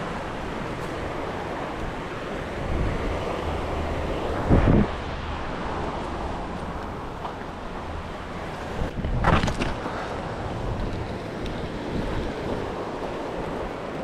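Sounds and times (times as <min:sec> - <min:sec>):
flowing river water: 0:00.0 - 0:14.0
wind buffeting microphone: 0:00.0 - 0:14.0.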